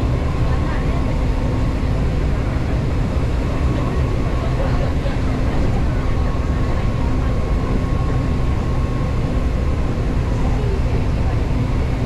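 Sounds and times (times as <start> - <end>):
electric train rumble and whine: 0.0 - 12.0.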